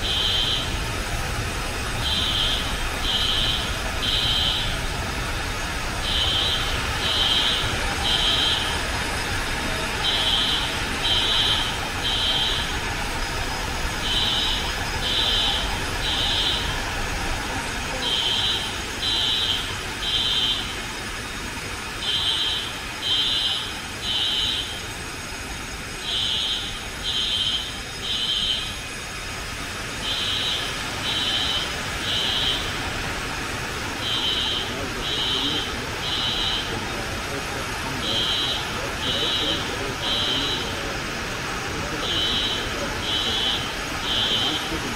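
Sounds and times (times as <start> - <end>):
fire alarm high-pitched beeps: 0.0 - 1.1, 1.9 - 4.9, 6.0 - 20.8, 22.0 - 29.0, 30.0 - 32.8, 34.0 - 40.8, 41.8 - 44.9
foam generators rushing: 0.0 - 44.9.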